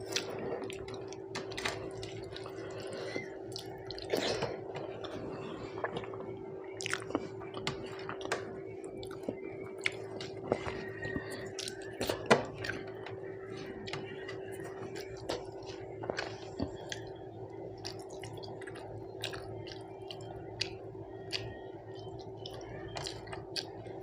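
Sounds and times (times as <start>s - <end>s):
person chewing food: 0.0s - 24.0s
steady low hum: 0.0s - 24.0s.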